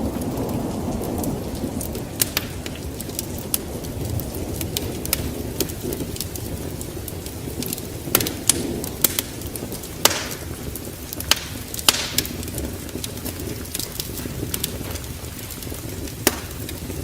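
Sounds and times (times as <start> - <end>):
low rush of fire: 0.0 - 17.0
wood fire crackling and popping: 0.0 - 17.0.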